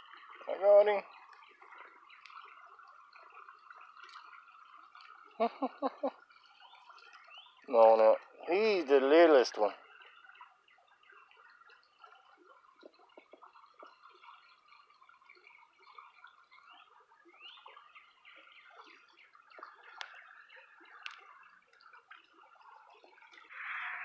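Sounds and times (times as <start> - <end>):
creek trickling over stones: 0.0 - 24.0.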